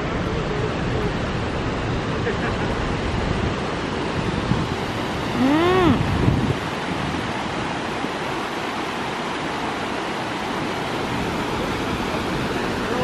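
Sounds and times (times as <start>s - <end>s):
water rushing over dam: 0.0s - 13.0s.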